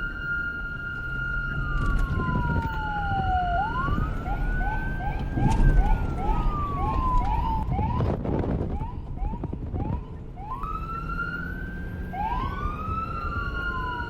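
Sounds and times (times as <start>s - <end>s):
police siren wailing: 0.0s - 14.0s
steady high siren tone: 0.0s - 14.0s.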